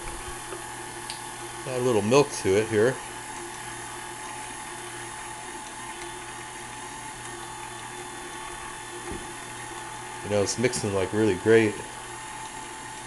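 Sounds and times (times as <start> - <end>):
stand mixer running: 0.0 - 13.0.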